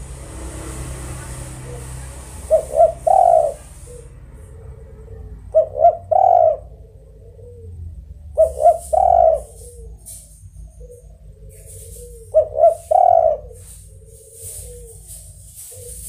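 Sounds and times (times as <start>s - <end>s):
dove cooing: 1.2s - 16.0s.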